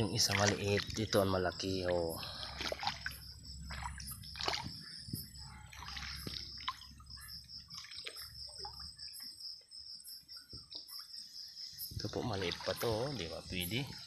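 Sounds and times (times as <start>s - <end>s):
stream water sloshing and splashing: 0.0s - 9.6s, 10.5s - 14.0s.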